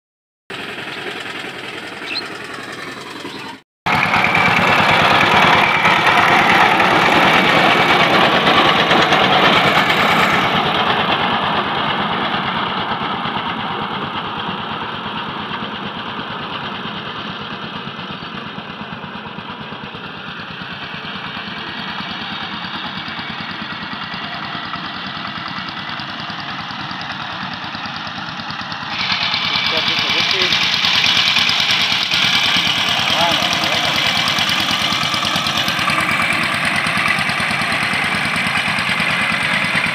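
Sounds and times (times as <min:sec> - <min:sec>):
diesel tiller engine running: 0:00.5 - 0:39.9.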